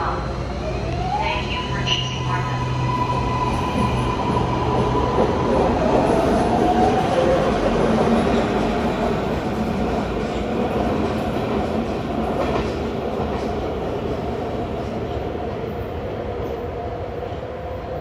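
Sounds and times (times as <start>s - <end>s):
train whine and wheel rumble: 0.0s - 18.0s.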